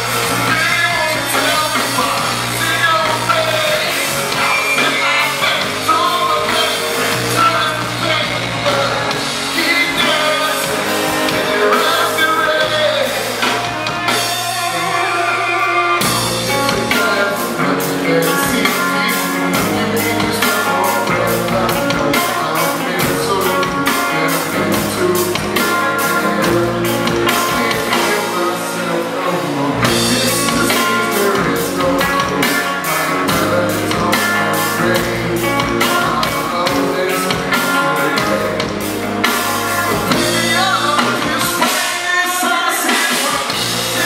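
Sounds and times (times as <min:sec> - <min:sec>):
drum kit beat: 0:00.0 - 0:44.0
rock band playing live: 0:00.0 - 0:44.0.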